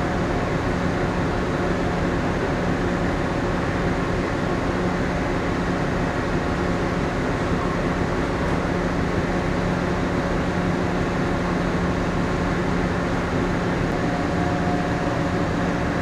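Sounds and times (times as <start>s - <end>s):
ship machinery and ventilation hum: 0.0s - 16.0s.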